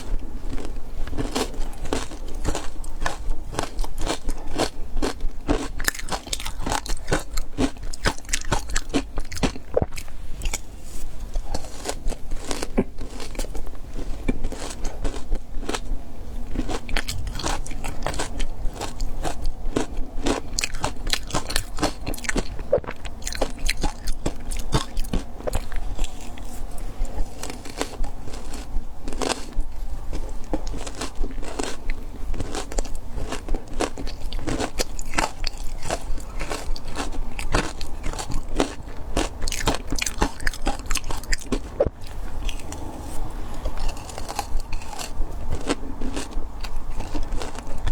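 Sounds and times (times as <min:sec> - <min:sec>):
chewing and crunching ice: 0:00.0 - 0:47.9.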